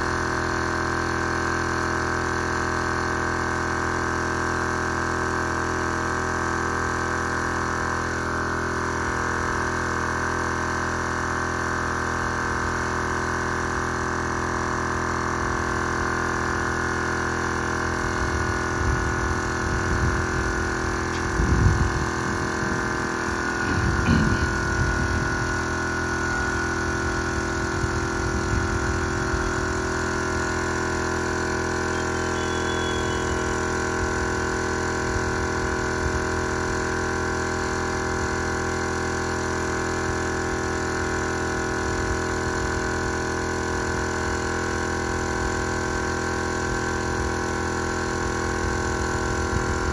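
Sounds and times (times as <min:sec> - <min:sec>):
air compressor humming: 0:00.0 - 0:49.9.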